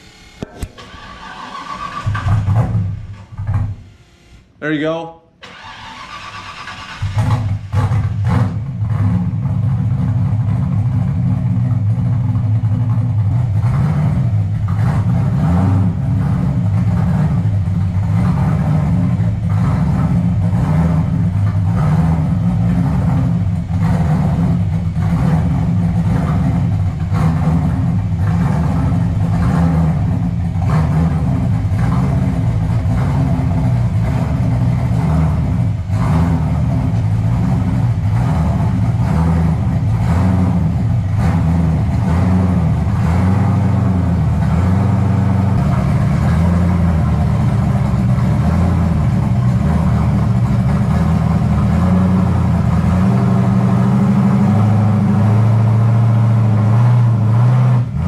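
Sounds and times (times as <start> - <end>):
car engine idling: 0.0 - 4.4, 5.4 - 58.0.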